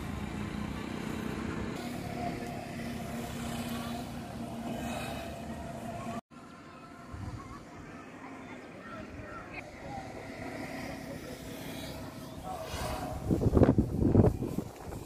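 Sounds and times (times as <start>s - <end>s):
noisy background: 0.0s - 15.0s.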